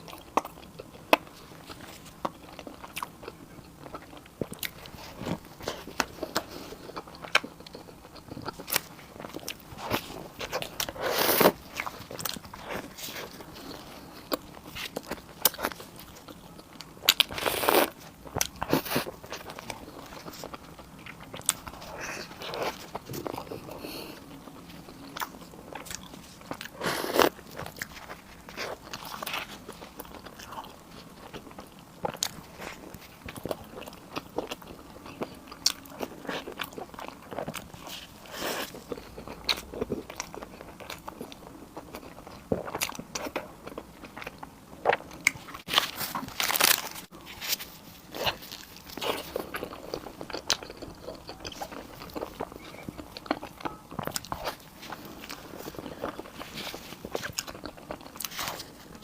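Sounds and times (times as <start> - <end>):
person biting and chewing food: 0.0 - 59.0.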